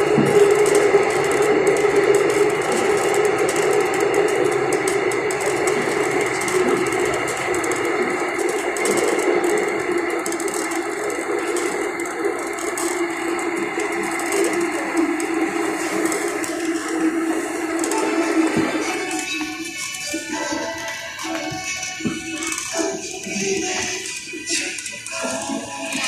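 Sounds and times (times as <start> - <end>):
train inverter whine: 0.0 - 26.0
train wheel and track noise: 0.0 - 26.0.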